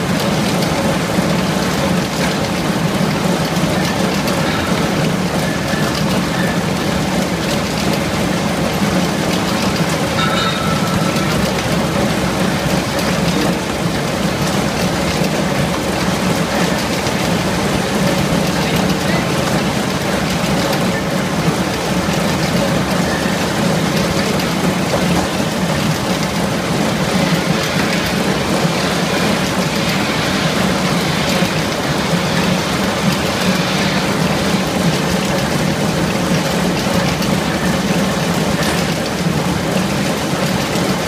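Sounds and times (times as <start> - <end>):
machine drone: 0.0 - 40.8.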